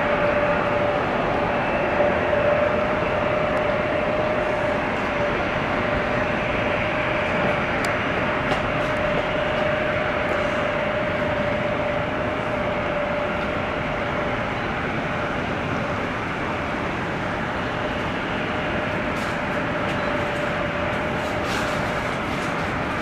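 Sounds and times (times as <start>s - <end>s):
jet engine rumble: 0.0s - 23.0s
steady whining tone: 0.0s - 23.0s.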